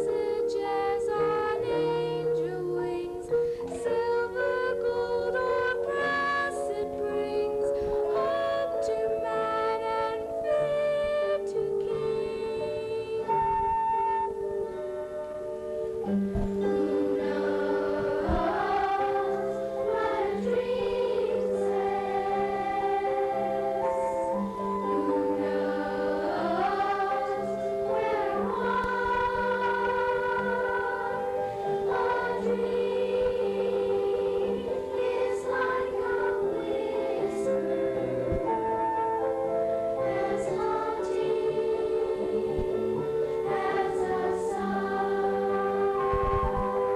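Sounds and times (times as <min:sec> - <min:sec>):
youth choir singing: 0:00.0 - 0:14.3, 0:16.0 - 0:46.9.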